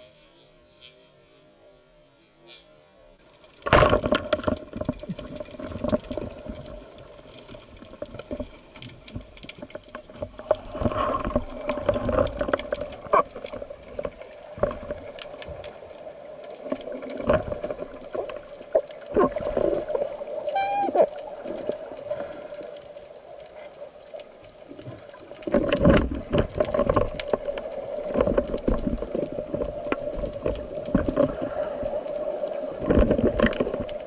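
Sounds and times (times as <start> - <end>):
water sloshing and gurgling: 3.2 - 34.0.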